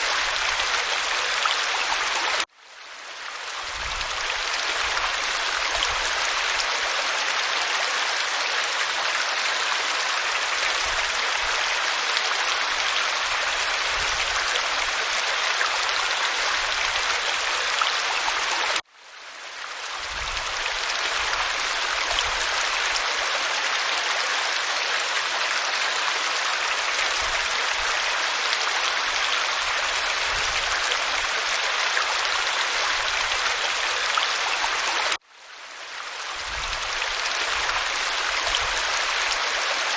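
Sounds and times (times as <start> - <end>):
waterfall splashing over rock: 0.0 - 2.5, 3.4 - 18.9, 19.9 - 35.2, 36.2 - 39.9.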